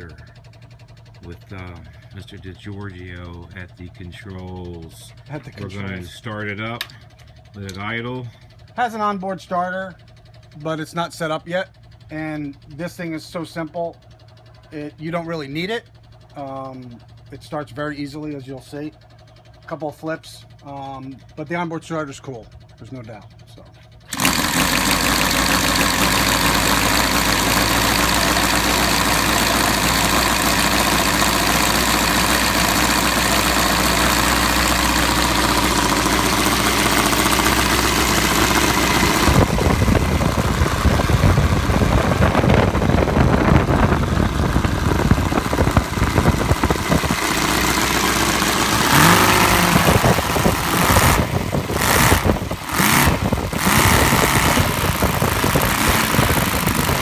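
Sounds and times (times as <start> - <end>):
model radial engine running: 0.0 - 57.0.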